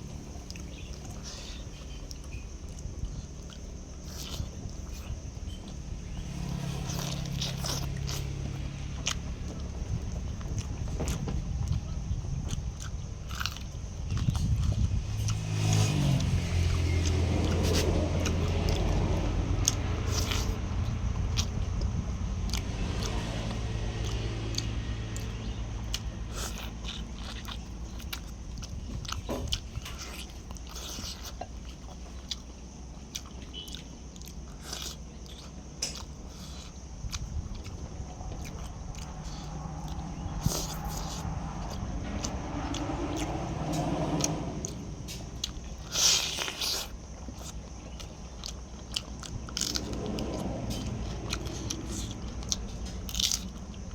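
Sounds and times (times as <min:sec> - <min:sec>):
chewing and biting: 0:00.0 - 0:53.9
low droning hum: 0:00.0 - 0:53.9.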